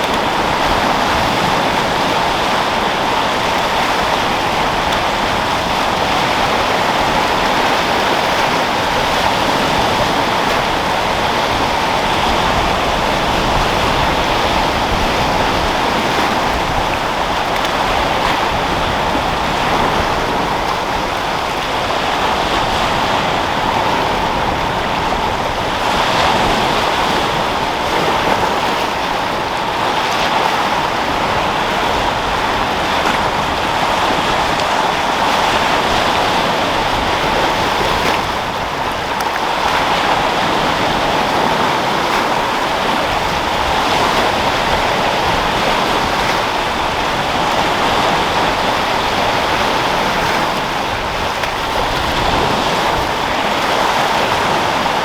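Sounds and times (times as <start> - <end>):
sea surf breaking: 0.0 - 55.0
wind: 0.0 - 55.0.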